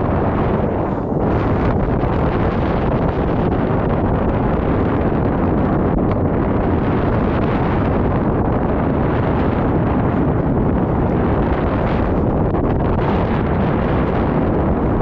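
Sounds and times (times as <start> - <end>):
wind buffeting camera microphone: 0.0 - 15.0.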